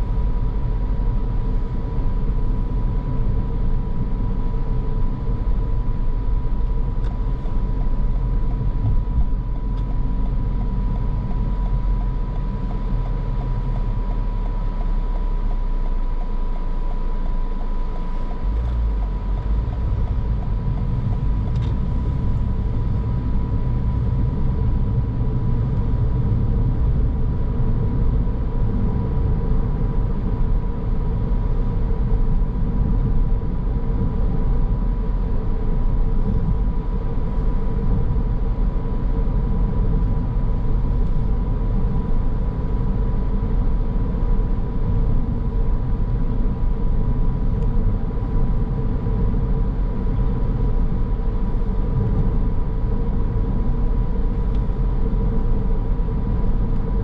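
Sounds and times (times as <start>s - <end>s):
car engine and tyre rumble: 0.0s - 57.0s
faint steady whine: 0.0s - 57.0s.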